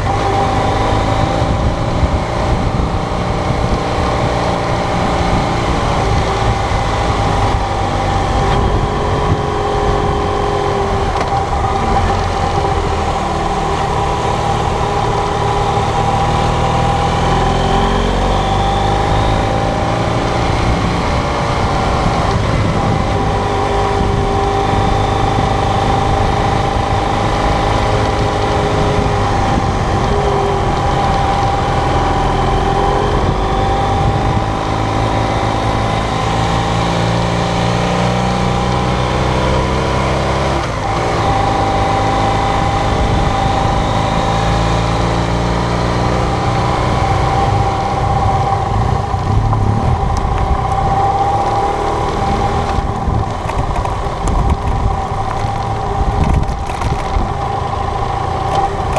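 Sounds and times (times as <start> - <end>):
motorcycle engine running: 0.0 - 58.9
road noise: 0.0 - 58.9
wind noise: 0.0 - 58.9.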